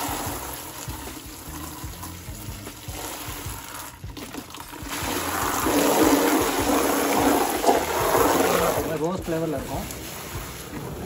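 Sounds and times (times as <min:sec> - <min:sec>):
hose water splashing into basin: 0:00.0 - 0:11.0.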